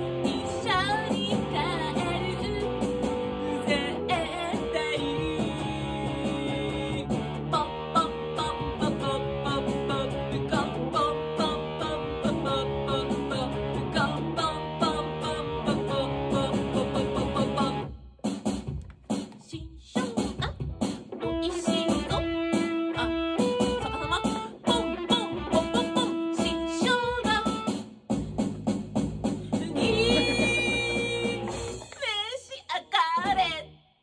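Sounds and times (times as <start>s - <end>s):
fuzz electric guitar strumming: 0.0s - 17.8s, 20.8s - 27.8s, 29.6s - 32.0s
woman singing: 0.0s - 17.9s, 19.4s - 27.7s, 29.6s - 33.8s.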